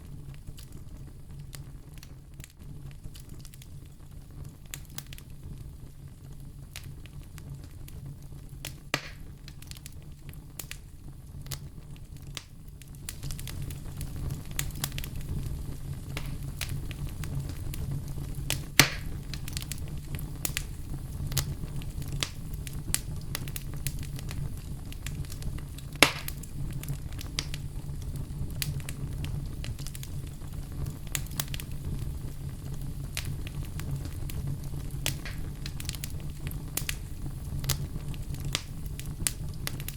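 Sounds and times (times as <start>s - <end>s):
firewood burning and crackling: 0.0s - 39.9s
loud pops from fire: 0.0s - 39.9s
low fire rumble: 0.0s - 39.9s.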